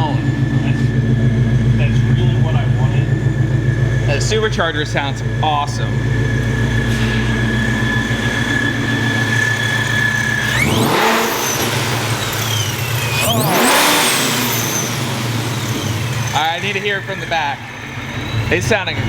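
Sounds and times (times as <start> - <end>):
car engine idling and revving: 0.0 - 19.0
supercharger whine: 0.0 - 19.0.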